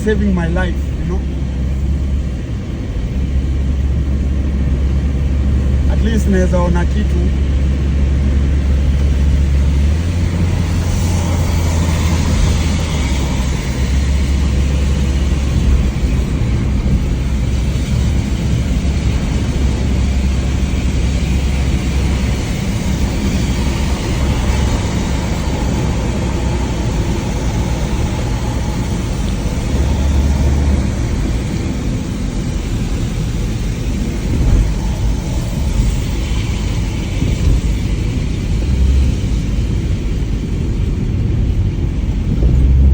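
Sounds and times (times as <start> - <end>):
car engine and road rumble: 0.0 - 42.9
rain and tyre spray hiss: 0.0 - 42.9
wind buffeting microphone: 7.2 - 42.9.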